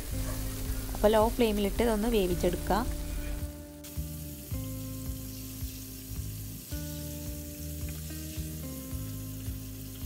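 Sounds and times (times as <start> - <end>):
background music with low beat: 0.0 - 10.0
chicken deep-frying in oil: 0.0 - 10.0.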